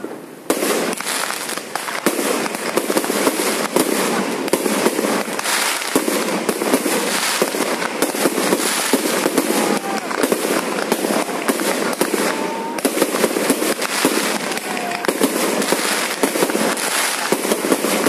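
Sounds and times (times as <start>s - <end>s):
fireworks bangs and pops: 0.0s - 18.0s
fireworks crackling: 0.0s - 18.0s.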